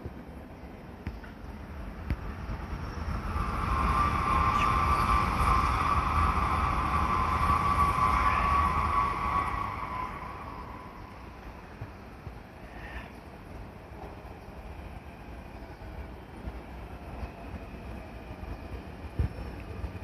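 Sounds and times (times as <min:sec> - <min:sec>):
electric train rumbling: 0:00.0 - 0:20.0
train wheels squealing: 0:02.7 - 0:11.9, 0:12.6 - 0:20.0.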